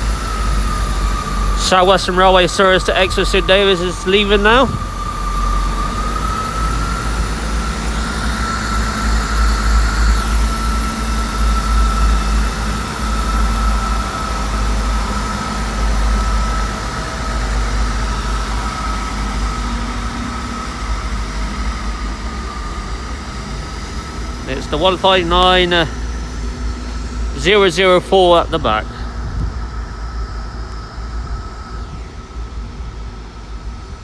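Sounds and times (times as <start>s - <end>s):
diesel train engines whining: 0.0s - 34.0s.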